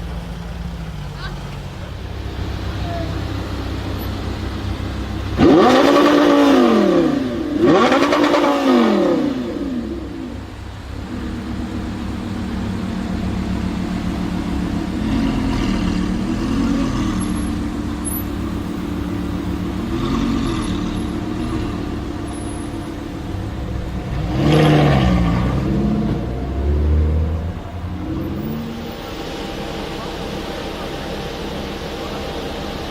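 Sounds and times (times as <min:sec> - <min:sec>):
engine revving: 0:00.0 - 0:32.9
sports car engine idling: 0:00.0 - 0:32.9.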